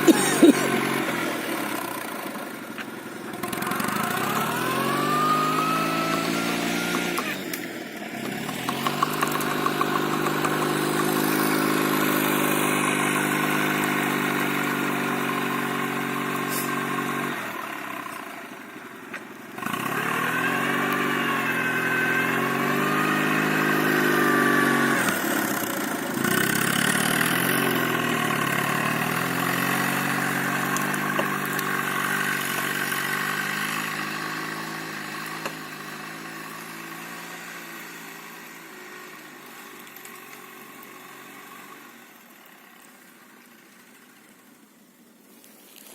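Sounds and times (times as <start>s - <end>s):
off-road vehicle engine revving: 0.0s - 44.5s.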